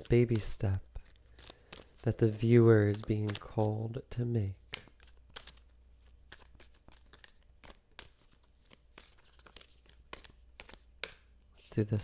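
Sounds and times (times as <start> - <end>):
cards shuffled by hand: 0.0 - 12.0.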